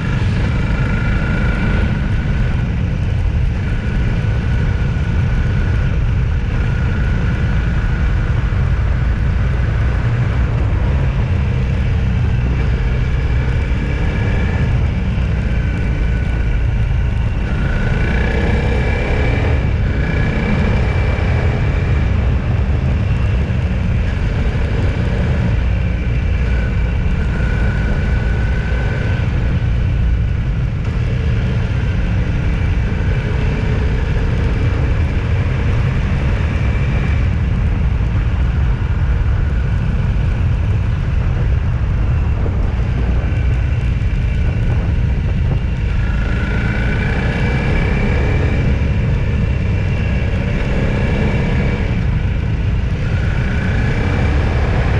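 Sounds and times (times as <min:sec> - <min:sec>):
vehicle road and engine rumble: 0:00.0 - 0:54.9.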